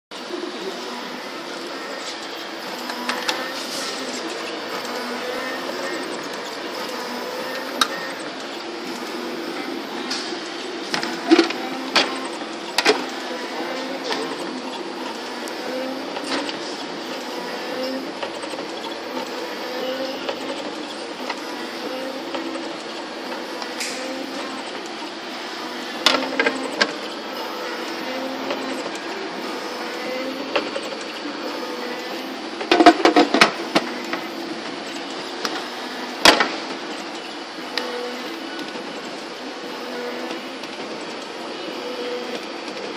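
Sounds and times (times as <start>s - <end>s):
machine motor hum and whir: 0.1s - 42.9s.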